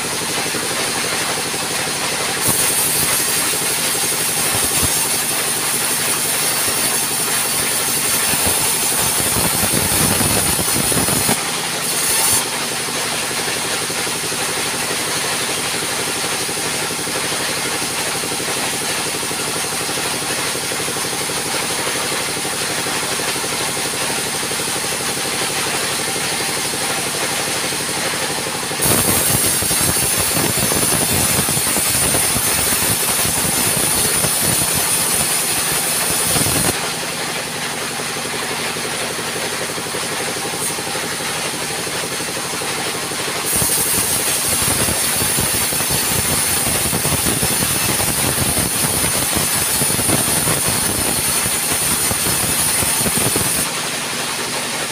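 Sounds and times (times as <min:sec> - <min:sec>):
saw ripping through log: 0:00.0 - 0:37.4, 0:42.4 - 0:54.8
band saw running: 0:00.0 - 0:54.9.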